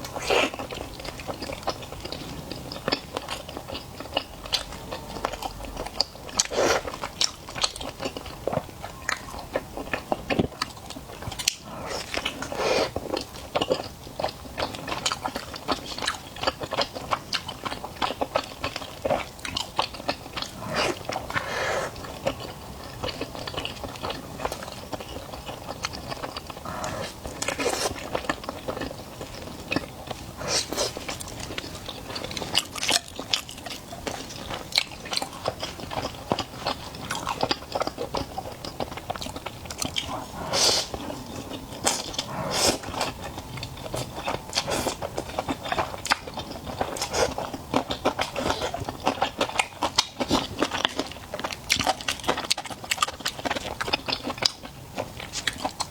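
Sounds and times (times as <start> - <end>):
person biting and chewing food: 0.0 - 54.6.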